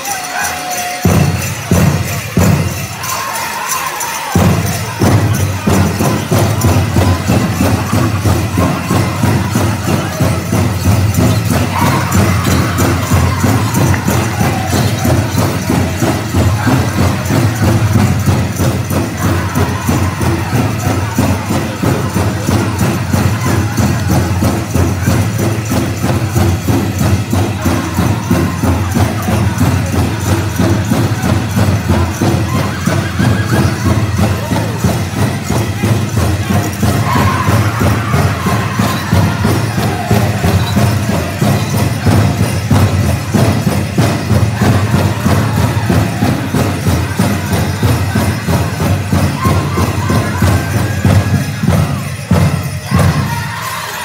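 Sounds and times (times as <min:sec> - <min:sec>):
drum group pounding fast beat: 0:00.0 - 0:54.0
leg bells jingling: 0:00.0 - 0:54.0
people singing: 0:03.0 - 0:25.8, 0:26.4 - 0:42.8, 0:43.4 - 0:52.1.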